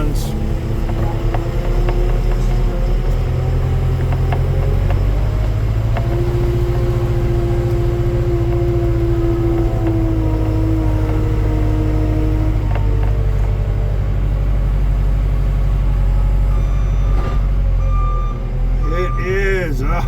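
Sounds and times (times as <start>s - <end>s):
heavy machine humming and whining: 0.0s - 19.2s.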